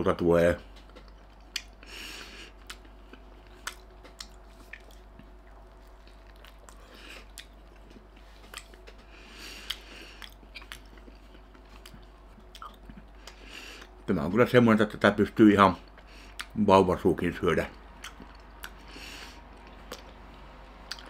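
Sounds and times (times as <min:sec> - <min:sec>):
person chewing food: 0:00.7 - 0:14.0, 0:15.8 - 0:16.6, 0:17.7 - 0:21.0.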